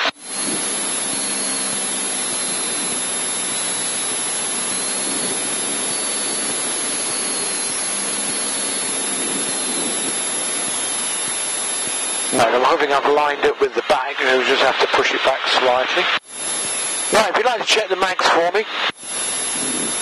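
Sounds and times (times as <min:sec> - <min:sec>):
small plane engine and propeller: 0:00.0 - 0:20.0.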